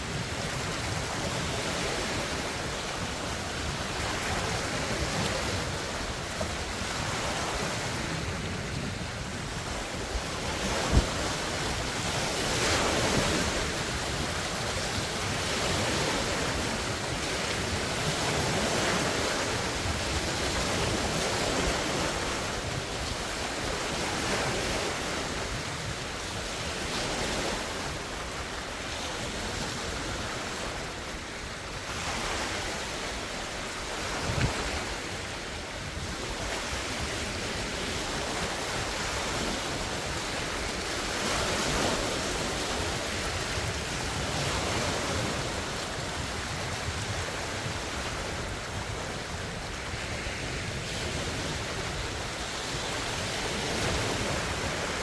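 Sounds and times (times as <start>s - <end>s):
waves breaking ashore: 0.0s - 55.0s
wind buffeting microphone: 0.0s - 55.0s.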